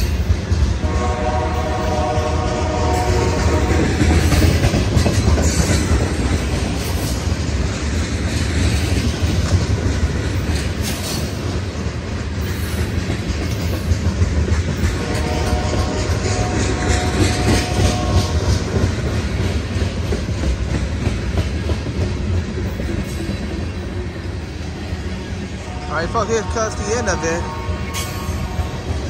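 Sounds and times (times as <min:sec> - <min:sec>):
freight train rolling past: 0:00.0 - 0:29.0
wheels clickety-clack on rail: 0:00.0 - 0:29.0.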